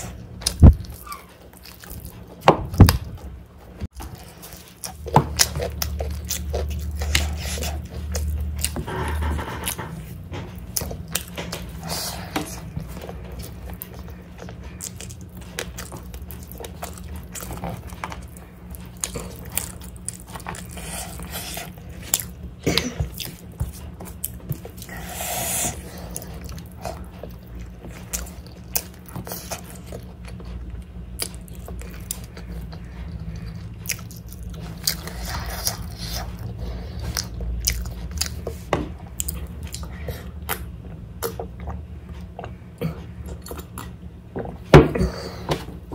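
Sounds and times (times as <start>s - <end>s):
person chewing and smacking: 0.0s - 45.9s.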